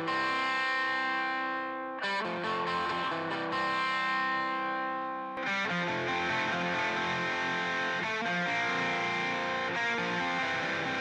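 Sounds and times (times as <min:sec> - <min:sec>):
distorted electric guitar chords: 0:00.0 - 0:11.0.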